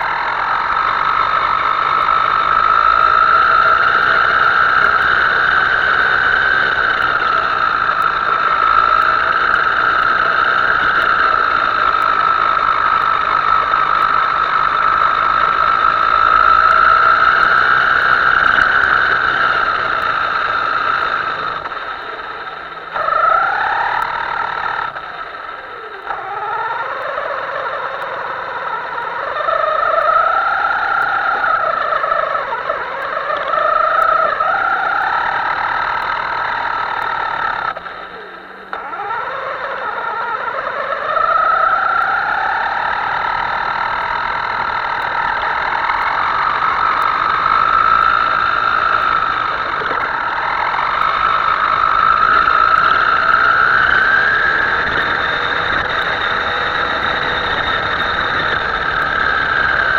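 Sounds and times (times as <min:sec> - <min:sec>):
toy boat motor whining: 0:00.0 - 0:59.9.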